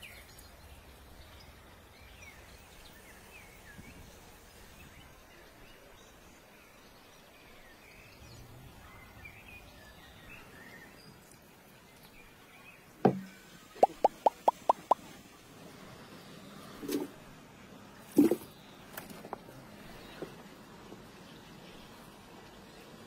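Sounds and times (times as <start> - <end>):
faint birdsong: 0.0 - 23.0.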